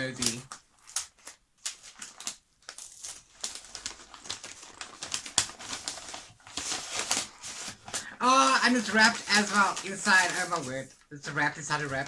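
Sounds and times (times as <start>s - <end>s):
wrapping paper rustling and crinkling: 0.0s - 12.0s.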